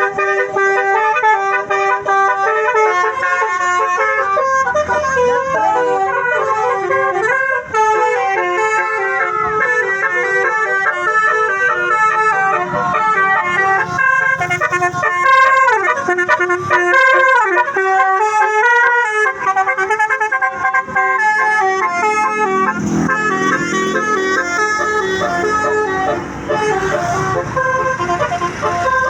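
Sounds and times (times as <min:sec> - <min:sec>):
bus horn playing a tune: 0:00.0 - 0:29.0.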